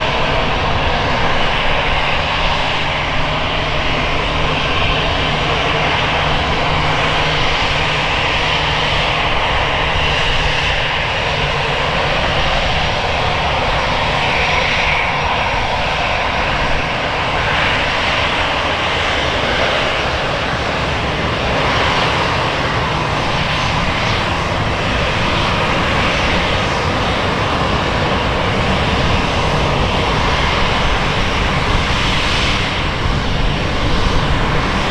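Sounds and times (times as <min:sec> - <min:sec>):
jet engines roaring: 0:00.0 - 0:34.9.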